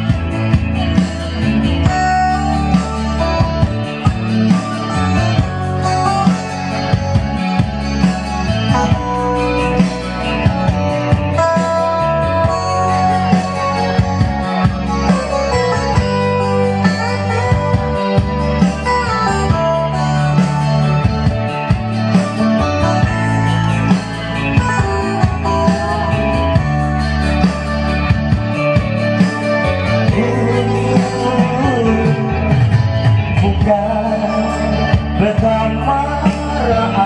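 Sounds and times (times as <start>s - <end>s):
instrumental band music: 0.0s - 37.0s.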